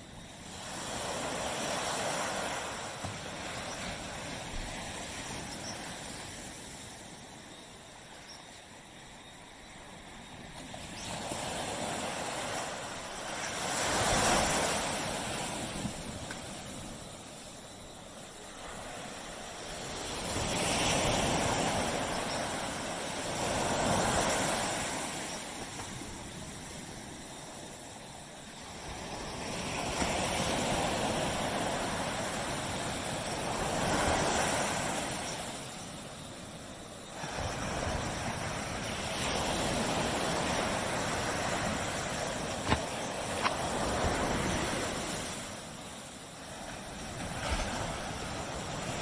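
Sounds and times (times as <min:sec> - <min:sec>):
ocean waves breaking on beach: 0:00.0 - 0:49.0.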